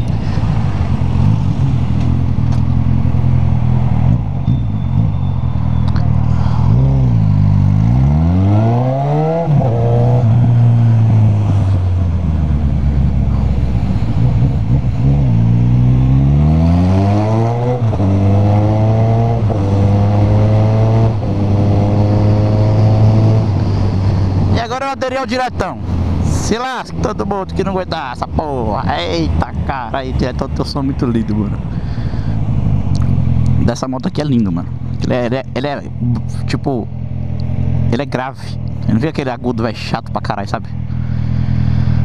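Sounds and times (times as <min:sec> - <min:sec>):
motorcycle engine revving: 0:00.0 - 0:24.6, 0:25.6 - 0:42.0.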